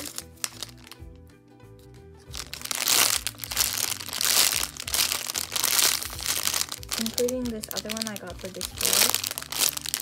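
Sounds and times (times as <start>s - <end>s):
plastic bag crinkling: 0.0s - 1.0s, 2.3s - 10.0s
quiet background music: 0.0s - 10.0s.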